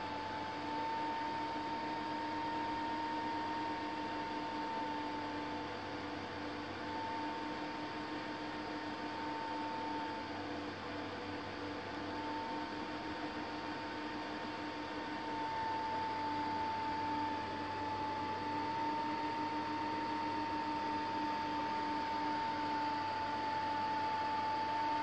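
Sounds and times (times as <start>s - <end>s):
mid-pitched whine: 0.0s - 25.0s.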